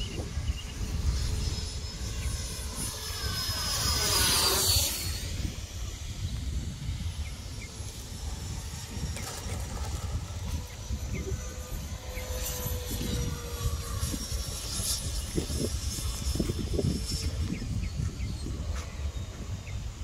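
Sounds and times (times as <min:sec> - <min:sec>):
model jet passing overhead: 0:00.0 - 0:20.0.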